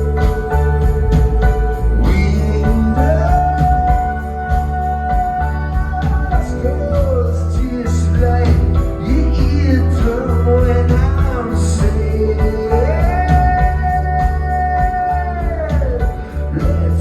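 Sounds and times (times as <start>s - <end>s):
guitar and drums: 0.0s - 17.0s
held high instrument tone: 0.0s - 17.0s
lead vocal singing: 0.0s - 17.0s.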